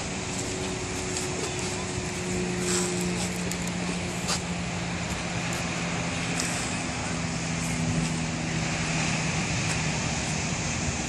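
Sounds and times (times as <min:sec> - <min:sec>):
constant rushing noise: 0:00.0 - 0:11.0
vehicle engine running: 0:00.0 - 0:11.0.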